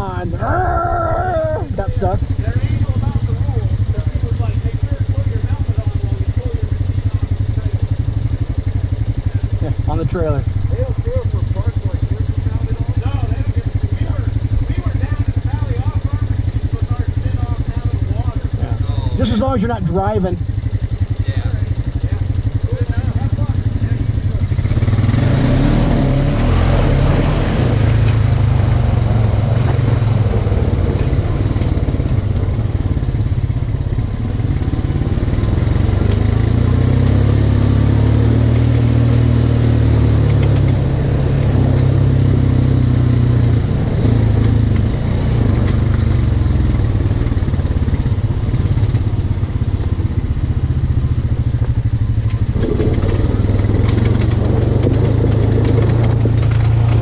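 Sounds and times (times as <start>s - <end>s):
off-road vehicle engine droning: 0.0s - 57.0s.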